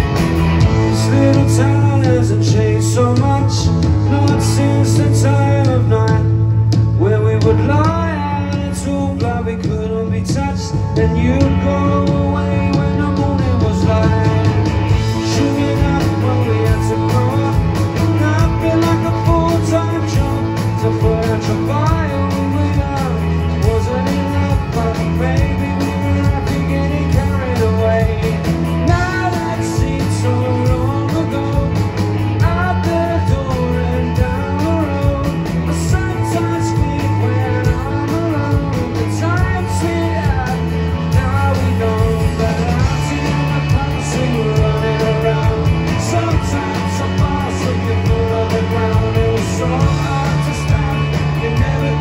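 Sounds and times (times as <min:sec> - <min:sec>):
bass guitar: 0:00.0 - 0:52.0
drum kit beat: 0:00.0 - 0:52.0
electric guitars: 0:00.0 - 0:52.0.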